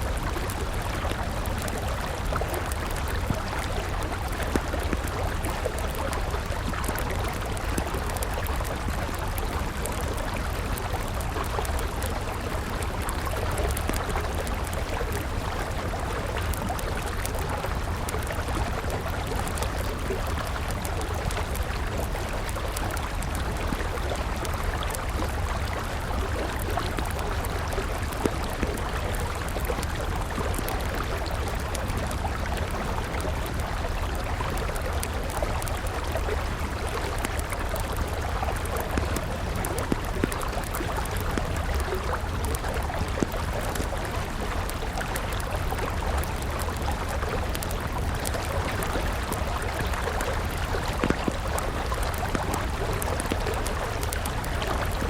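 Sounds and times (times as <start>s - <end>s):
campfire crackling and popping: 0.0s - 55.0s
river flowing: 0.0s - 55.0s.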